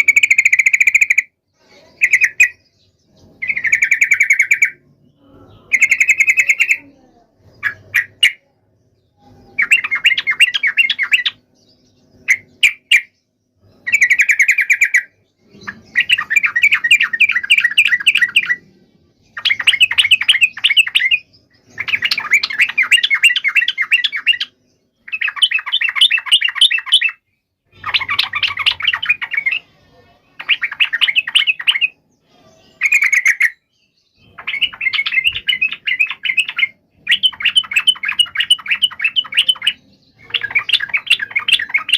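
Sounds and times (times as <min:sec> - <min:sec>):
bulbul bubbly chattering song: 0:00.0 - 0:05.0, 0:05.6 - 0:08.8, 0:09.4 - 0:11.5, 0:12.1 - 0:29.8, 0:30.4 - 0:32.1, 0:34.2 - 0:41.9.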